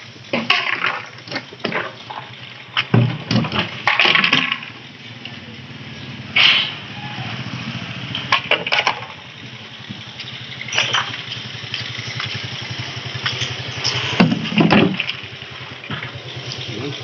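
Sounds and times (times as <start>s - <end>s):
sharp knocks and clatters: 0.0s - 4.9s, 6.4s - 6.9s, 8.1s - 17.0s
engine idling: 0.0s - 17.0s.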